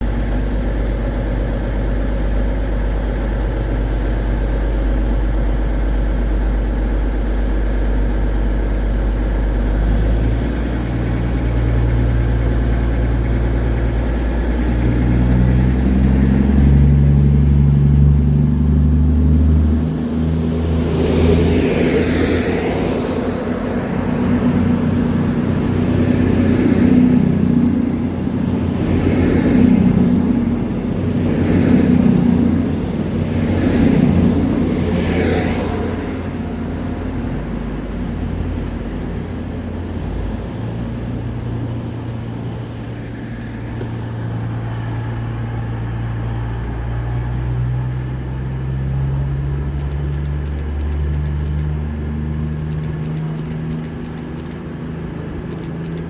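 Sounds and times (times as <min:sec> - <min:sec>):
diesel train engine: 0:00.0 - 0:56.0
train rushing past: 0:00.0 - 0:56.0.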